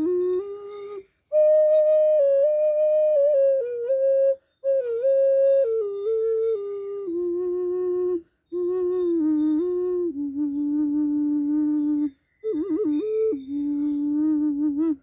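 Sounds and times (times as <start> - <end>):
ocarina playing slow melody: 0.0 - 15.0.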